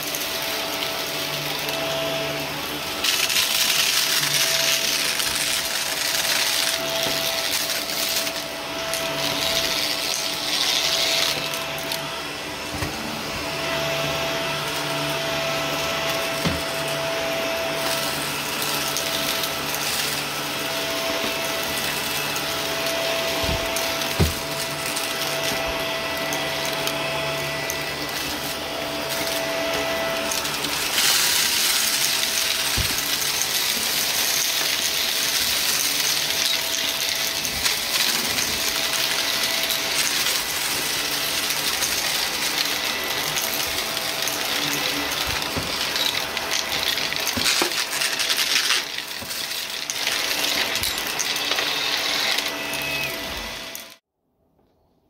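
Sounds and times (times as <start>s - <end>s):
vacuum cleaner running: 0.0s - 54.1s.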